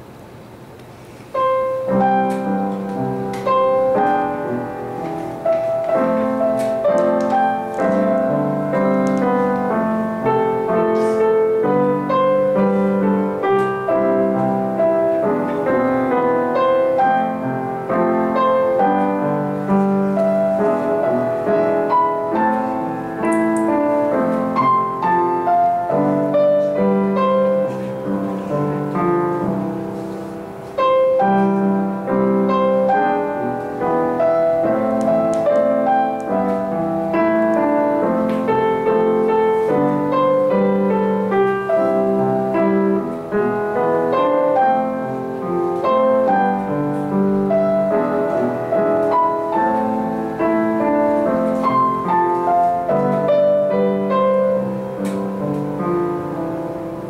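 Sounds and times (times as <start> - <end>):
piano played four hands: 0.0 - 57.0.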